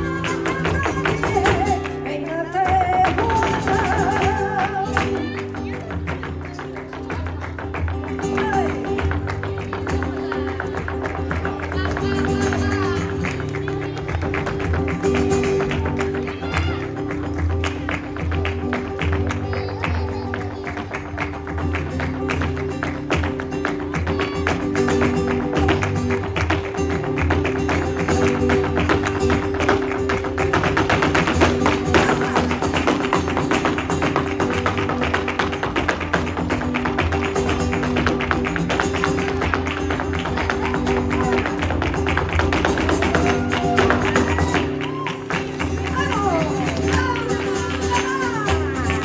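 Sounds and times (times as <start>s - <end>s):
dancer's footwork taps: 0.0s - 49.0s
flamenco guitar strummed and picked: 0.0s - 49.0s
sharp hand claps: 3.0s - 49.0s.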